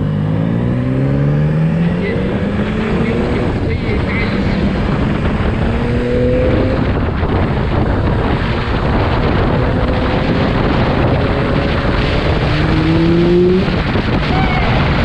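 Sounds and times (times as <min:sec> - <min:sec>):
motorcycle engine accelerating: 0:00.0 - 0:15.0
wind rushing over microphone: 0:00.0 - 0:15.0.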